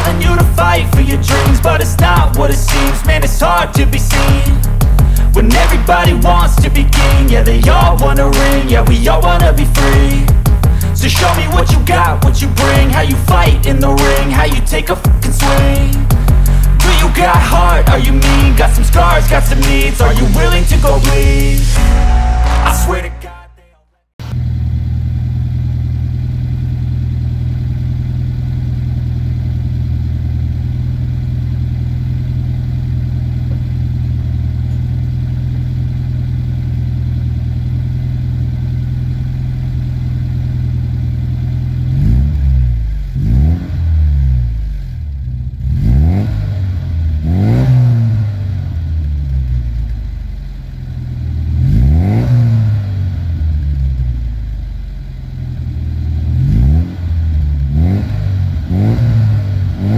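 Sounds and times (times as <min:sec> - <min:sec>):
car engine idling: 0:00.0 - 0:23.0, 0:24.2 - 0:45.9, 0:46.5 - 0:52.2, 0:52.8 - 0:59.9
engine revving throttle blips: 0:00.0 - 0:23.2, 0:24.2 - 0:59.9.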